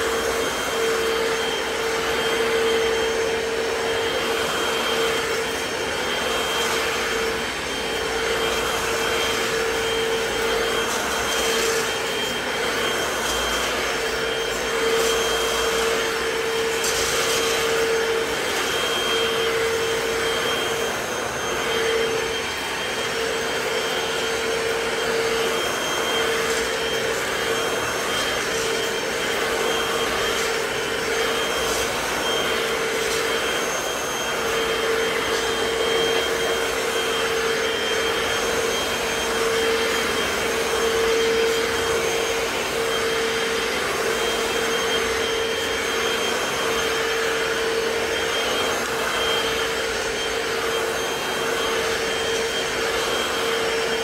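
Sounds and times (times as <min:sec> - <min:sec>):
floor cleaner suction whine: 0:00.0 - 0:54.0.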